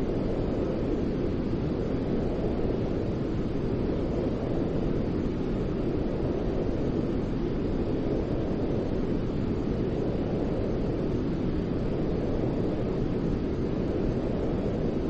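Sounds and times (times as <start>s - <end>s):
deep white noise: 0.0s - 15.0s.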